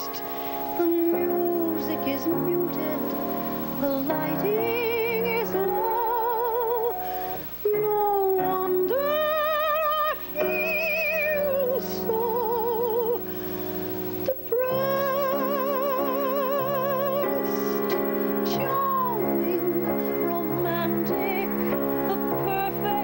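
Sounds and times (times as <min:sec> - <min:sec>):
woman singing with vibrato: 0:00.0 - 0:13.5, 0:14.2 - 0:23.0
piano chords: 0:00.0 - 0:23.0.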